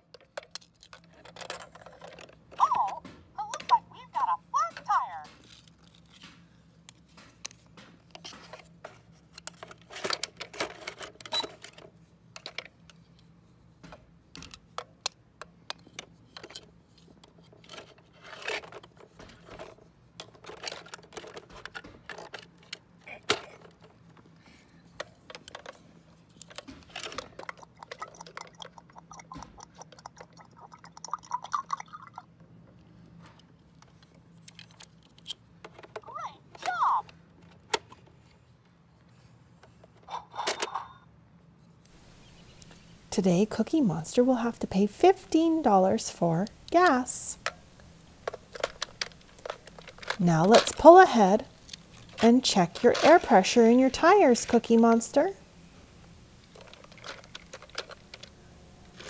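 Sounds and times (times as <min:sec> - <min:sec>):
plastic toys clicking and rattling: 0:00.0 - 0:13.3, 0:14.3 - 0:32.3, 0:33.6 - 0:38.2, 0:43.4 - 0:55.4, 0:56.4 - 0:59.0.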